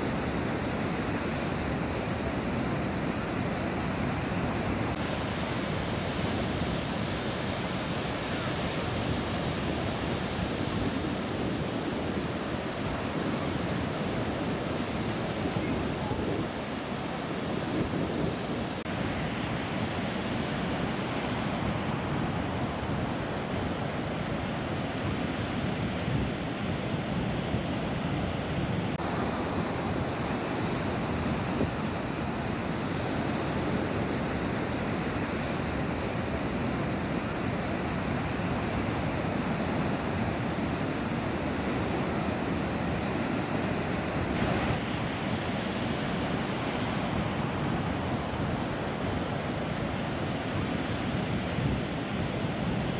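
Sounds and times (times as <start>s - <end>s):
sea waves surging: 0.0s - 52.9s.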